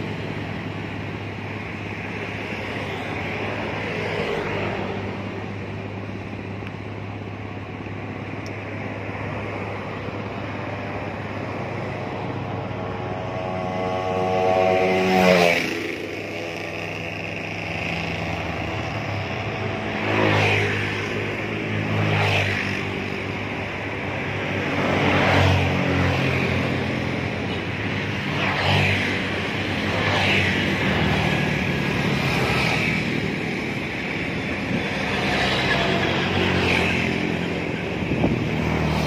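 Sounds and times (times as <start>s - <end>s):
low engine drone: 0.0s - 39.0s
vehicles passing on bridge: 0.0s - 39.0s.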